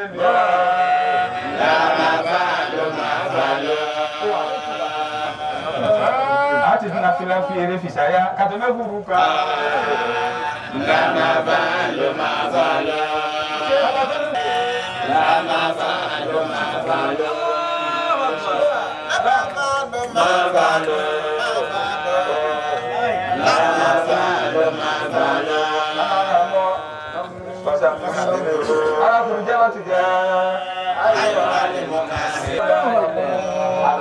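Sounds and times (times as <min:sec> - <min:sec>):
men singing religious chant: 0:00.0 - 0:34.0.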